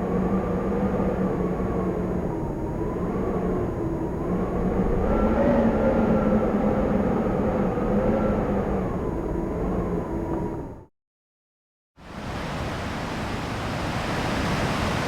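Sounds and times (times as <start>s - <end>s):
howling wind: 0.0s - 10.9s, 12.0s - 15.0s.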